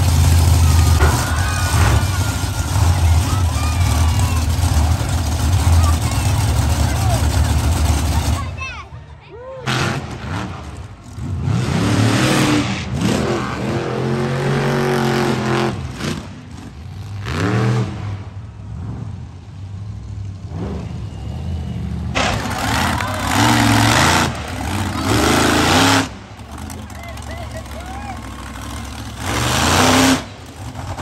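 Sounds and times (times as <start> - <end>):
monster truck engines revving: 0.0 - 31.0.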